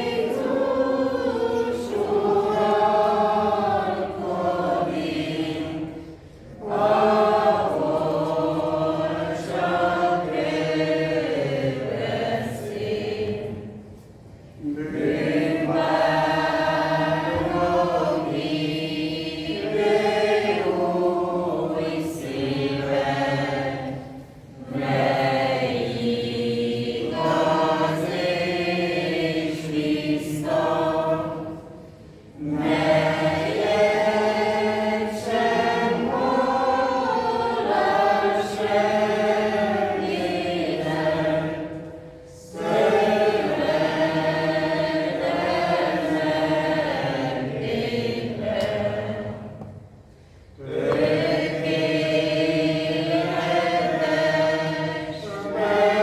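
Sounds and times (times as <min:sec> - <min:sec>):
mixed choir singing a hymn: 0:00.0 - 0:56.0.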